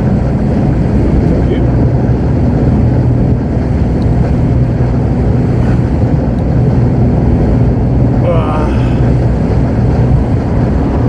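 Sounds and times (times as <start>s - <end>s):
lorry diesel engine droning: 0.0s - 11.0s
road noise: 0.0s - 11.0s.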